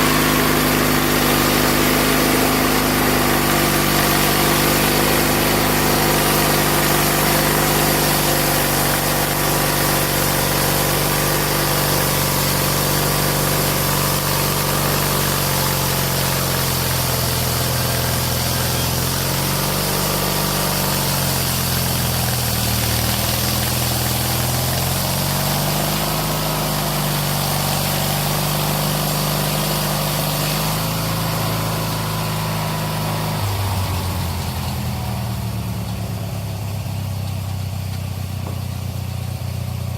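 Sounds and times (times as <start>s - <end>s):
lawn mower engine hum: 0.0s - 39.9s.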